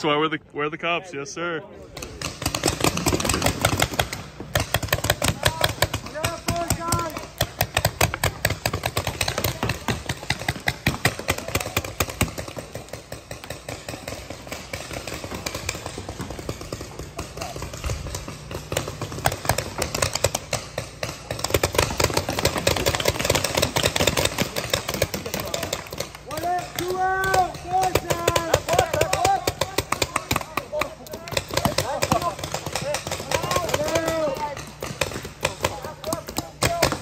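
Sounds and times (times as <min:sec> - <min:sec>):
paintball markers firing: 0:01.8 - 0:37.0.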